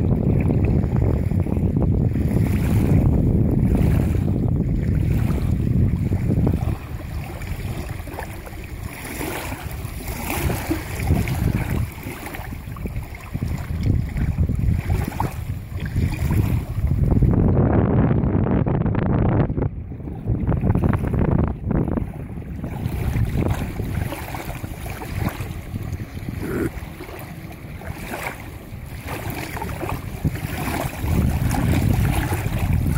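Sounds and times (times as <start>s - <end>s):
small waves lapping: 0.0s - 17.5s, 19.7s - 32.9s
wind buffeting microphone: 0.0s - 32.9s.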